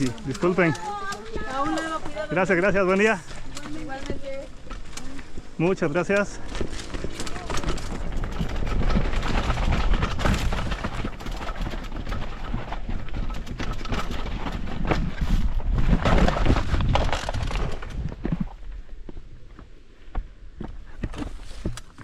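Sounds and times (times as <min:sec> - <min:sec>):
motorcycle rumbling: 0:00.0 - 0:18.7.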